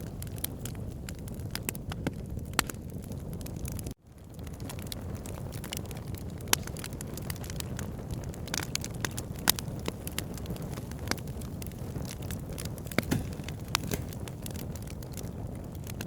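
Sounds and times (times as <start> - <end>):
fire crackles and pops: 0.0 - 16.0
wood fire rumble: 0.0 - 16.0.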